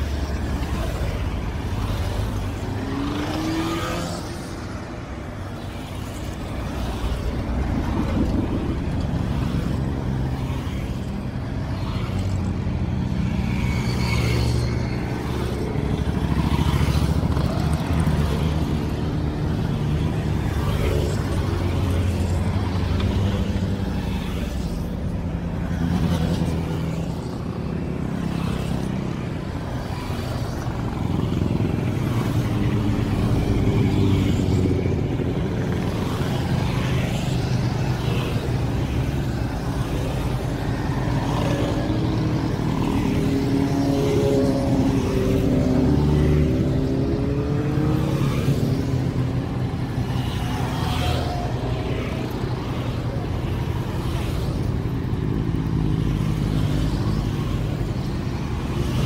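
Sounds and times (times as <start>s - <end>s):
car traffic: 0.0s - 59.0s
motorcycles riding past: 0.0s - 59.0s.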